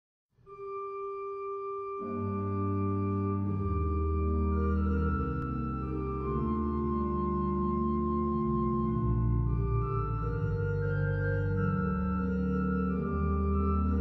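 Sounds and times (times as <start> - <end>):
church organ playing chords: 0.5 - 14.0.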